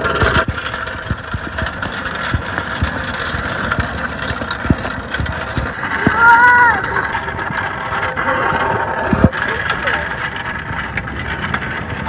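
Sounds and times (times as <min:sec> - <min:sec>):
tricycle wheels rolling on gravel: 0:00.0 - 0:12.0
wheel knocks: 0:00.0 - 0:12.0.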